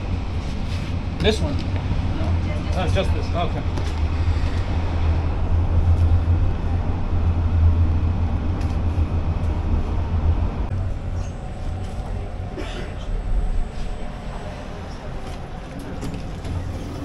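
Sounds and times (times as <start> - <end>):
tram rumbling: 0.0 - 17.0.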